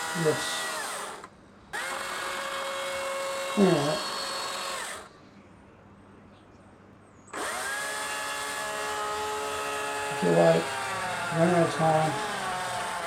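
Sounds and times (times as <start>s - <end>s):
small power tool whining: 0.0s - 5.1s, 7.3s - 13.0s.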